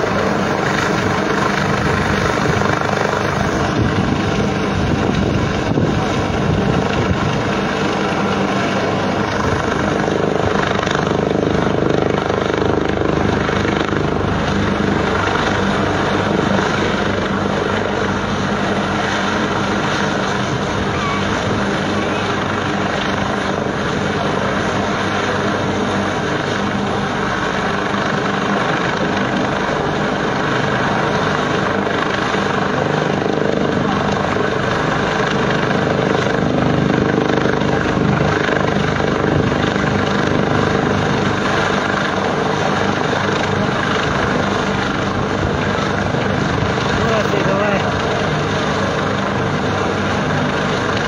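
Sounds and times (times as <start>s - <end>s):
helicopter hovering: 0.0s - 51.0s.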